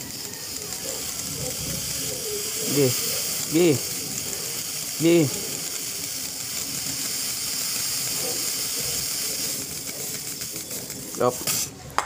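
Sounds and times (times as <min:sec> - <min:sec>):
pressurised spray hissing: 0:00.0 - 0:11.9.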